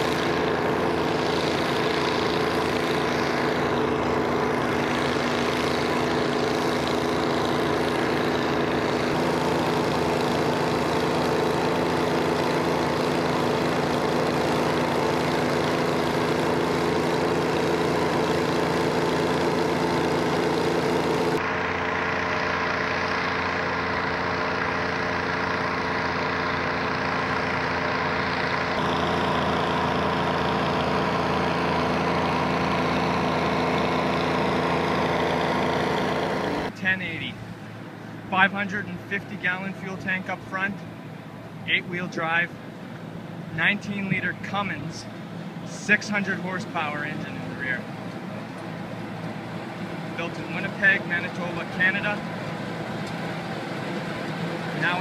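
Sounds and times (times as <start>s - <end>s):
diesel engines running under load: 0.0s - 55.0s.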